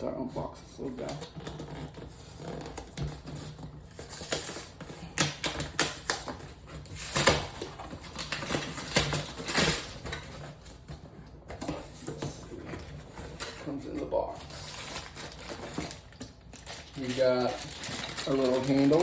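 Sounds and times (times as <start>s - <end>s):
cardboard and packaging rustling: 0.0s - 19.0s.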